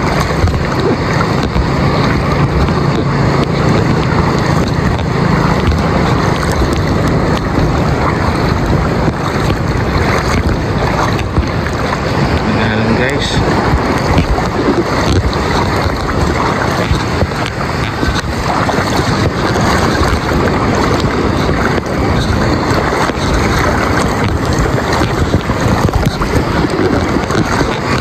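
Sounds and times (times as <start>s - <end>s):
small waves lapping: 0.0s - 28.0s
wind buffeting microphone: 0.0s - 28.0s.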